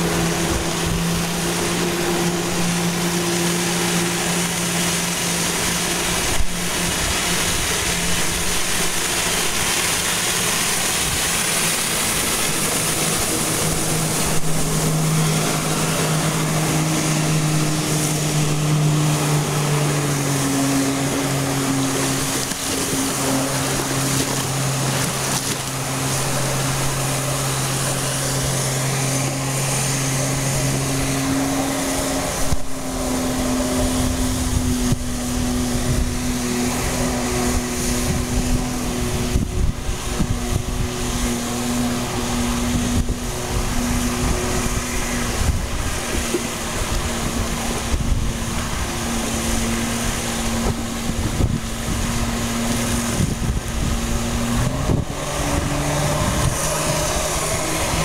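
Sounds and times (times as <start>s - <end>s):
engine-driven pump droning: 0.0s - 58.0s
water jets spraying onto lake: 0.0s - 58.0s
wind buffeting microphone: 0.0s - 58.0s.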